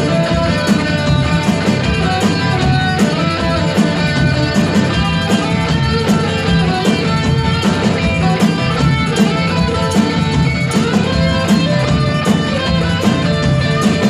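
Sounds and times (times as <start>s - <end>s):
drums and cymbal hits: 0.0s - 14.0s
electric guitar strumming: 0.0s - 14.0s.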